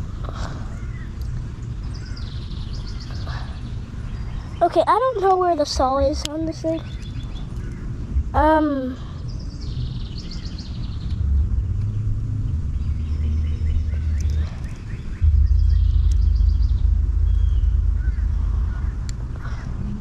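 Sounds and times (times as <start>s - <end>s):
faint birds chirping: 0.0s - 20.0s
wind buffeting microphone: 0.0s - 20.0s.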